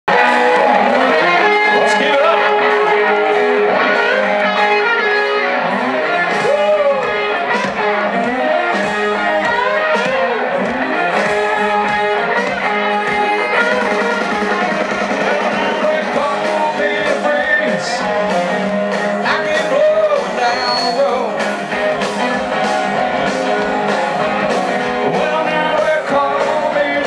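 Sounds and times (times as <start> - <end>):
drums: 0.1 - 27.0
electric guitars: 0.1 - 27.0.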